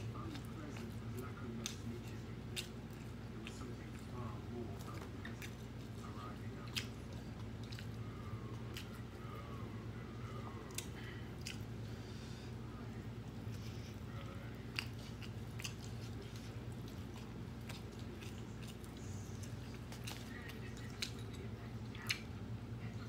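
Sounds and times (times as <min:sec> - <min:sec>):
person chewing food: 0:00.0 - 0:22.6
steady low hum: 0:00.0 - 0:23.0.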